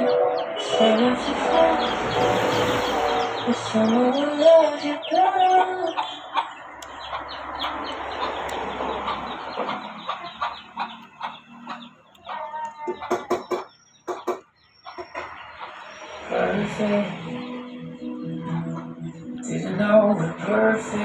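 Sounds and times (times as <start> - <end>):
chickens clucking: 0.0 - 19.5.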